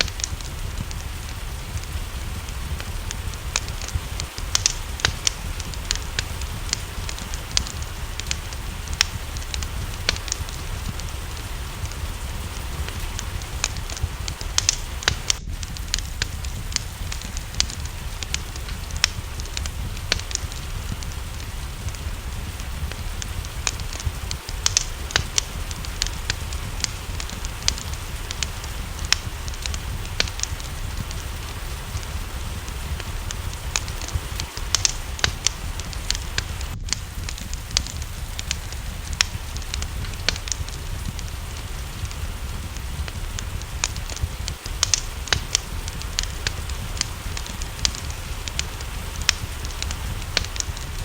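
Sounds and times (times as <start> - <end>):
low rumble: 0.0 - 51.0
rain hissing: 0.0 - 51.0
wood fire crackling: 0.0 - 51.0.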